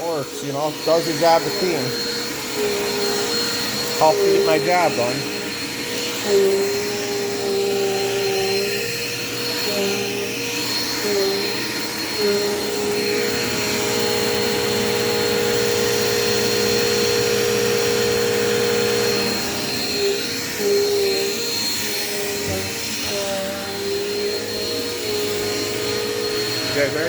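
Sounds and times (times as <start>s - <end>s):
vacuum cleaner running on carpet: 0.0s - 27.0s.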